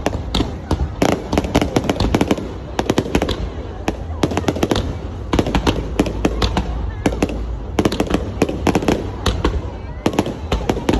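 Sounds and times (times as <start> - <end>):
fireworks bangs: 0.0 - 10.9.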